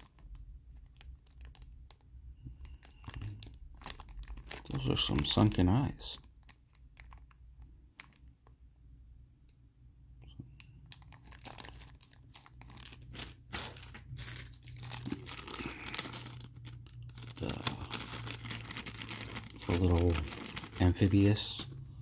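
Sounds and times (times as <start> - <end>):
plastic bag crinkling: 0.0 - 8.4, 10.8 - 22.0.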